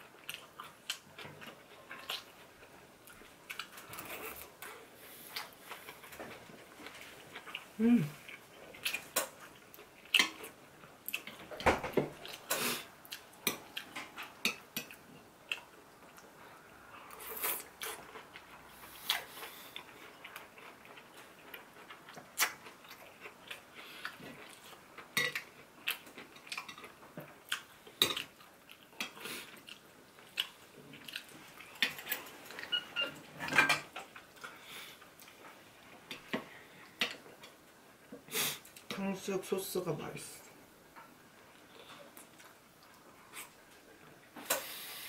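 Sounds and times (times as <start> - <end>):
chewing crunchy food: 0.0 - 11.6, 12.2 - 38.9, 41.0 - 44.6.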